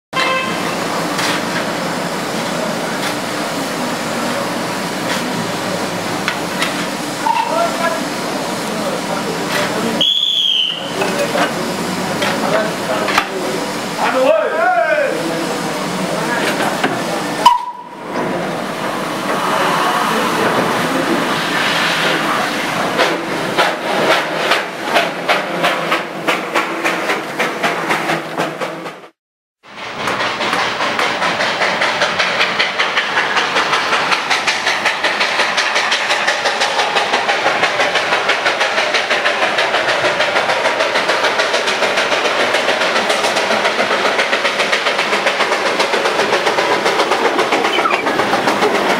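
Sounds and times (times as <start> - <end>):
steam locomotive hissing: 0.2 - 48.9.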